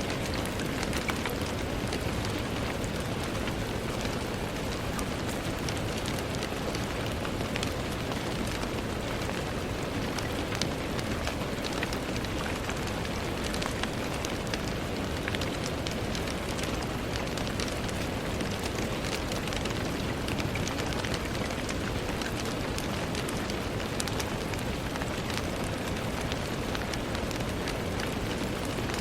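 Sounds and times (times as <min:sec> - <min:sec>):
rain falling: 0:00.0 - 0:29.0
raindrop ticks: 0:00.0 - 0:29.0.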